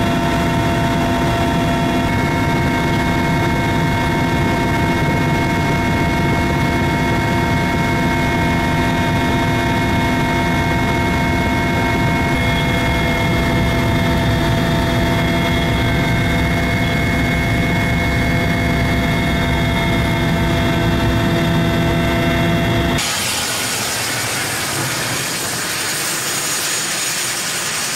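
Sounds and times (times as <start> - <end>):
helicopter rotor rumble: 0.0 - 27.9
helicopter turbine whine: 0.0 - 27.9.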